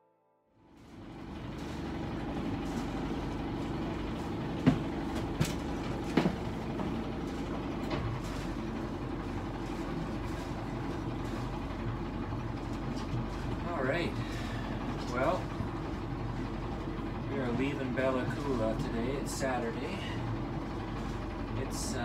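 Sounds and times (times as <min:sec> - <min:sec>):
boat engine running: 0:00.6 - 0:22.0.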